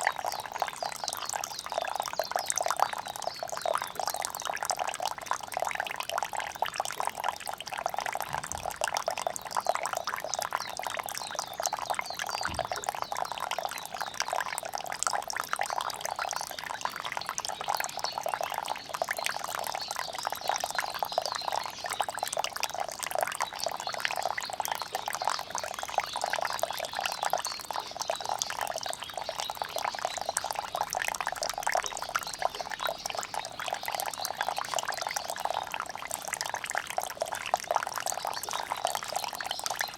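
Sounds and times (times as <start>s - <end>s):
rainwater pouring and splashing: 0.0s - 39.9s.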